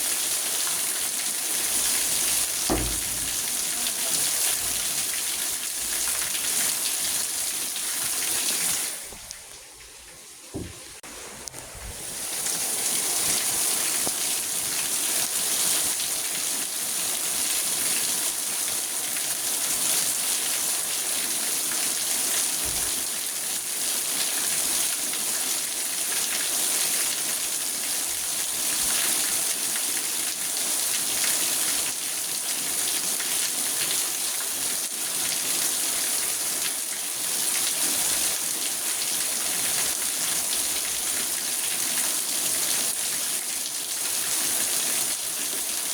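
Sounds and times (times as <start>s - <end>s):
rain on a car roof: 0.0s - 45.9s.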